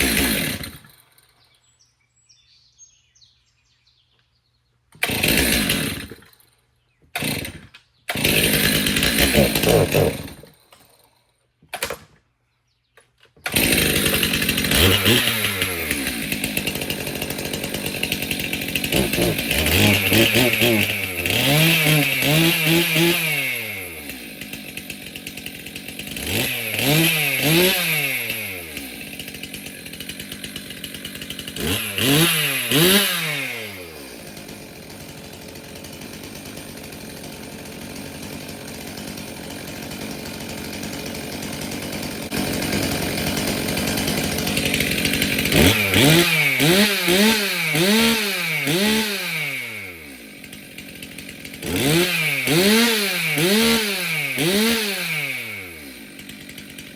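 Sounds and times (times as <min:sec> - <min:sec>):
chainsaw engine revving and idling: 0:00.0 - 0:01.4, 0:05.0 - 0:06.5, 0:07.1 - 0:11.2, 0:13.4 - 0:56.9.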